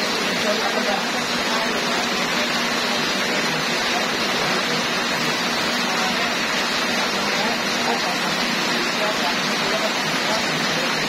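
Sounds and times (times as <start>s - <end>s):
heavy rain splashing into water: 0.0s - 11.0s.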